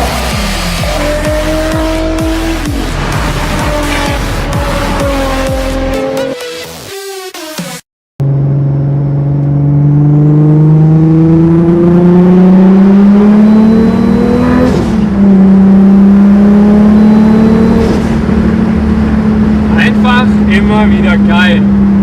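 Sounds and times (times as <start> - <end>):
turbocharged engine accelerating: 0.0 - 7.0, 8.2 - 22.0.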